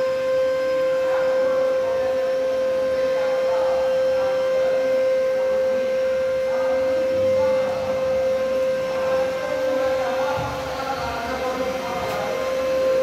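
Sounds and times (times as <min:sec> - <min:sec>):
faint music: 0:00.0 - 0:13.0
steady single-pitched hum: 0:00.0 - 0:13.0.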